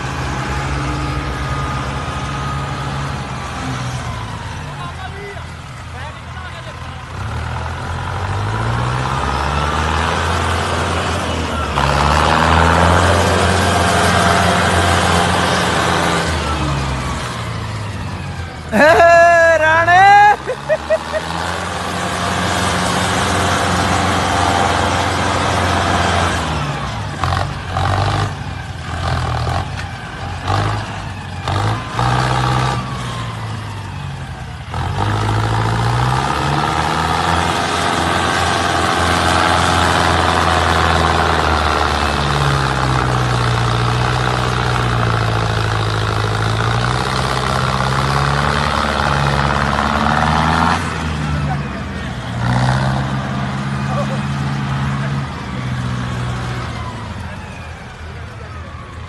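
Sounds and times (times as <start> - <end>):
diesel tractor engine revving: 0.0 - 59.0.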